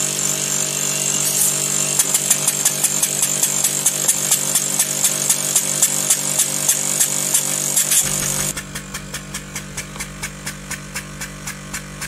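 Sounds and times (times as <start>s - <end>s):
pneumatic engine running: 0.0s - 12.0s.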